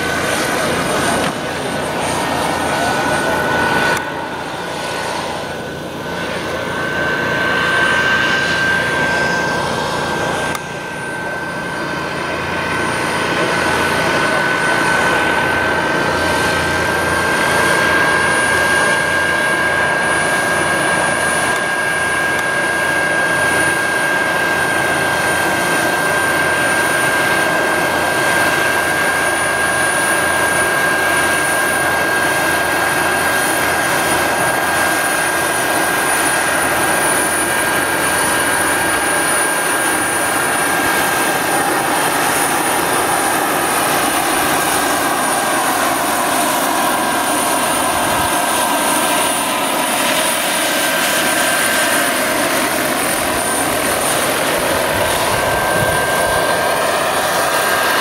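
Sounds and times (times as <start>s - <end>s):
model helicopter rotor noise: 0.0s - 58.0s.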